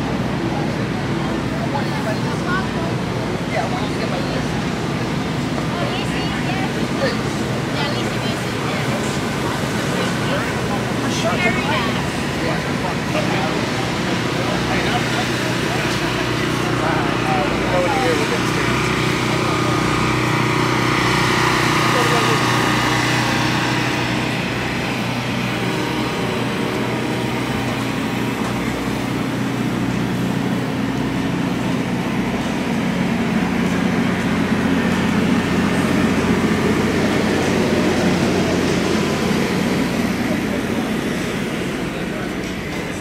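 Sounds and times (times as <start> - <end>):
engine drone: 0.0 - 43.0.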